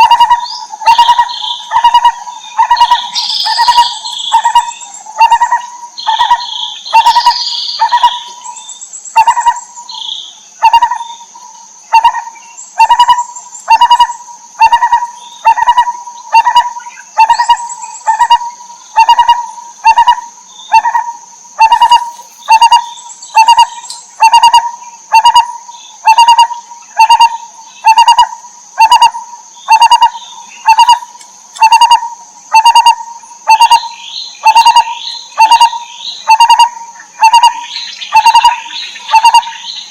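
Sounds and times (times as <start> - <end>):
barbet calling low notes: 0.0 - 8.5, 11.9 - 39.8
higher bird chirps: 0.0 - 39.9.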